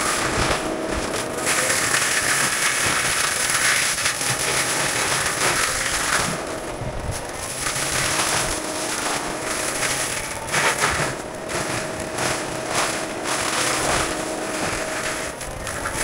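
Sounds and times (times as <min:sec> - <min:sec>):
heavy equipment engine whine: 0:00.0 - 0:16.0
wood and brush snapping: 0:00.0 - 0:16.0.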